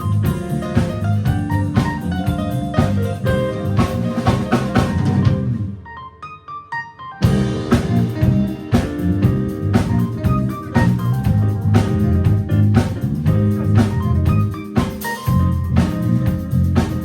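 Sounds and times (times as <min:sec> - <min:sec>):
live jazz band playing: 0:00.0 - 0:05.8, 0:07.2 - 0:17.0.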